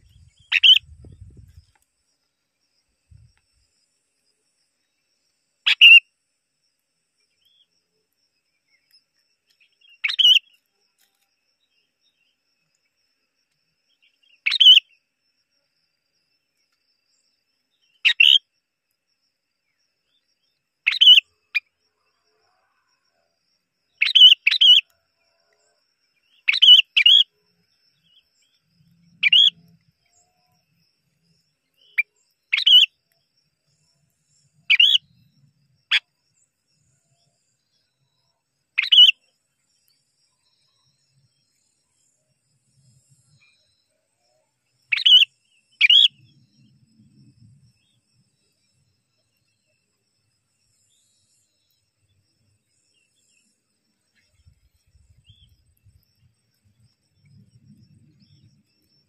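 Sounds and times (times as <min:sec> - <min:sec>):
bird chirping: 0:00.0 - 0:01.8, 0:04.8 - 0:06.0, 0:08.4 - 0:13.0, 0:13.8 - 0:15.0, 0:16.6 - 0:18.4, 0:19.6 - 0:21.8, 0:23.9 - 0:59.0.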